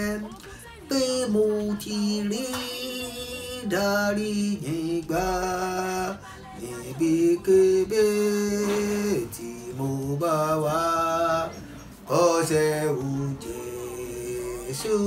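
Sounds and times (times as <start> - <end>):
man singing a hymn: 0.0 - 15.0.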